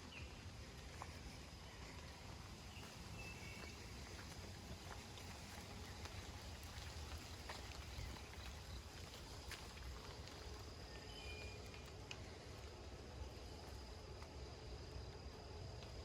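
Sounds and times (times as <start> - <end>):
footsteps on forest trail: 0.0 - 16.0.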